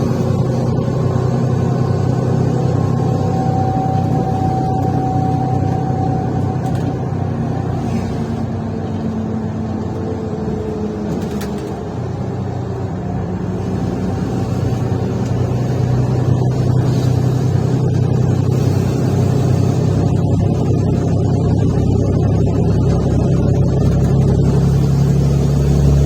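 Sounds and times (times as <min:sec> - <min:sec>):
bus engine droning inside bus: 0:00.0 - 0:26.0.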